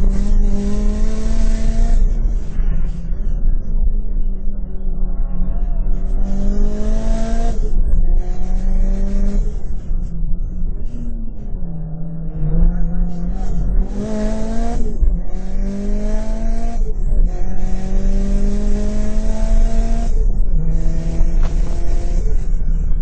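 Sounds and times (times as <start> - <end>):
car engine accelerating hard: 0.0 - 23.0
road and wind noise: 0.0 - 23.0.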